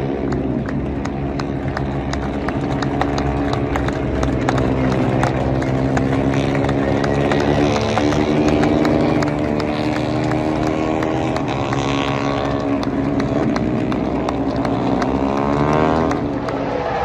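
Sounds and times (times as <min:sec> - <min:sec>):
motorbike accelerating: 0:00.0 - 0:17.0
racing motorbikes passing at high revs: 0:00.0 - 0:17.0.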